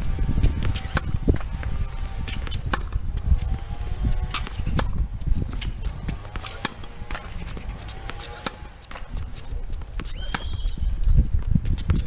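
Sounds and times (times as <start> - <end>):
racket hitting tennis ball: 0.0 - 12.0
tennis ball bouncing on hard court: 0.0 - 12.0.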